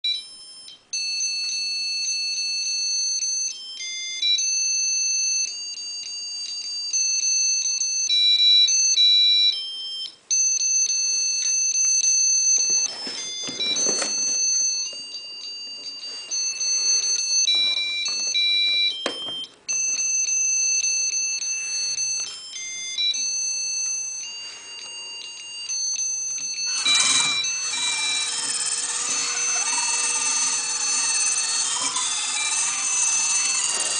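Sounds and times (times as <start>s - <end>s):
electronic beeping melody: 0.1s - 33.9s.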